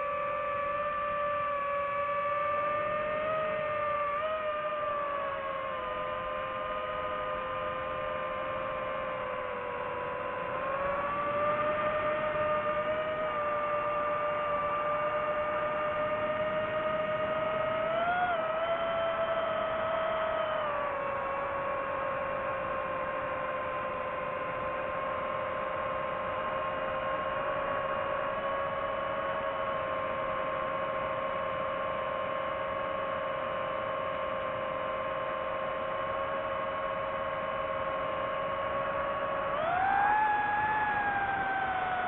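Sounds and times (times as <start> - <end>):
drone propellers whining: 0.0 - 42.0.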